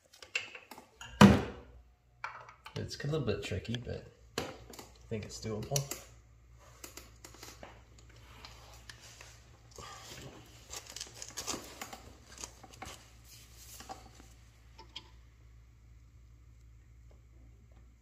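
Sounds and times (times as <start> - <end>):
faint low hum: 1.3 - 18.0.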